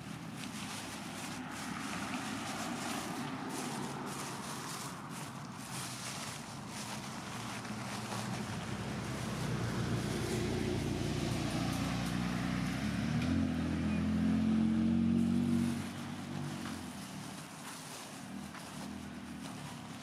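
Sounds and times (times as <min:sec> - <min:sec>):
vehicle driving past: 0:00.5 - 0:17.4.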